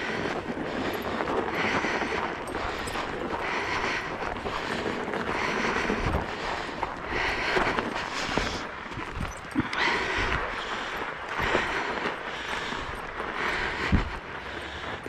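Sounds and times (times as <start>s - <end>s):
scooter tyre crunching on snow: 0.0s - 15.0s.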